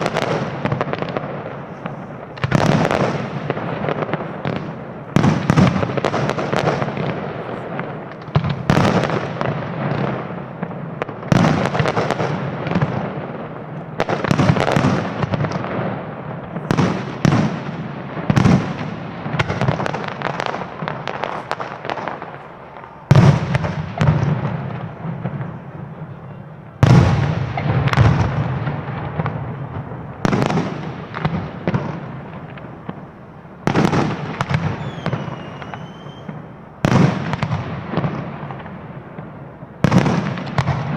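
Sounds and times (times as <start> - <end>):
fireworks bursting with crackling: 0.0 - 40.9.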